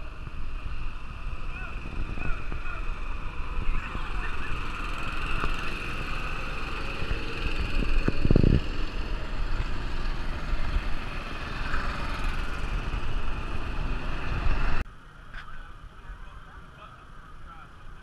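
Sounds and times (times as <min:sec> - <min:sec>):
go-kart engines running: 0:00.0 - 0:18.0.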